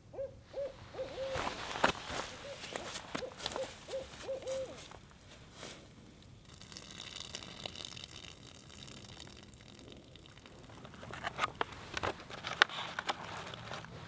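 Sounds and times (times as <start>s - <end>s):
faint steady hiss: 0.4s - 14.0s
food packaging crinkling: 1.3s - 14.0s.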